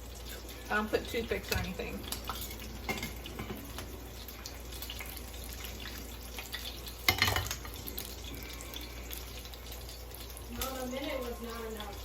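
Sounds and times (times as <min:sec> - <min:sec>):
tacos deep-frying in hot oil: 0:00.0 - 0:12.0.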